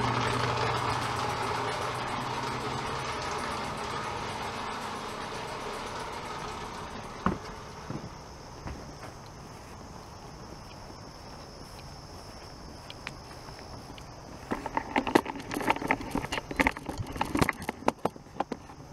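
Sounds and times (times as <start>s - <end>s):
low hum: 0.0s - 17.8s
insects chirring: 0.0s - 18.9s.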